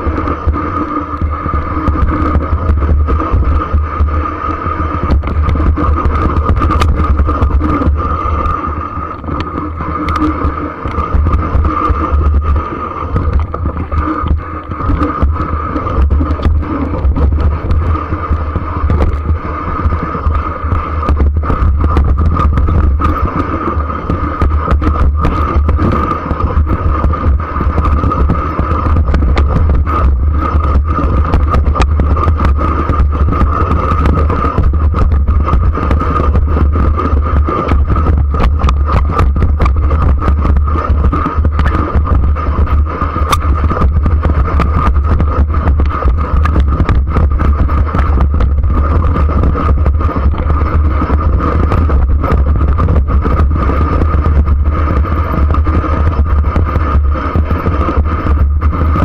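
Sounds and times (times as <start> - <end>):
steady high hum: 0.0 - 59.0
wind buffeting camera: 0.0 - 59.0.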